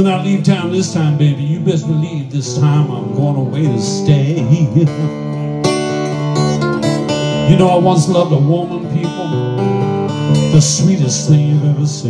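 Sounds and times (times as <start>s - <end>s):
acoustic guitar blues: 0.0s - 12.0s.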